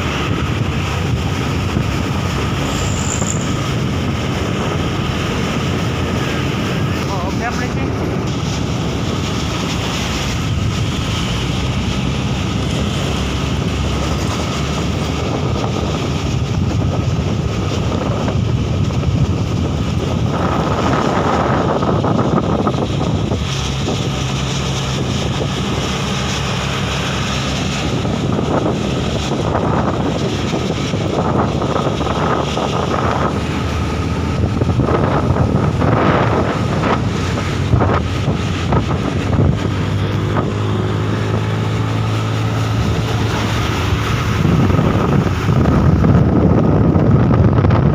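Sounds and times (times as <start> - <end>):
truck engine running: 0.0 - 47.9
wind noise on microphone: 0.0 - 47.9.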